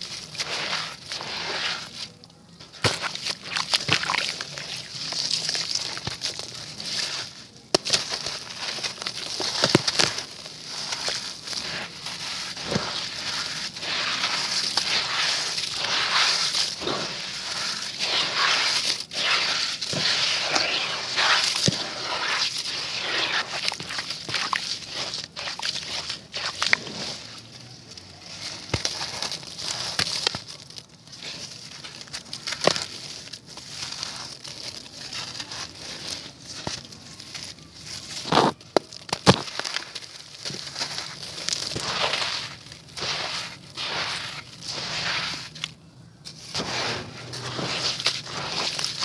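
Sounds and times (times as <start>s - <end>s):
gritty concrete crunching: 0.0s - 49.0s.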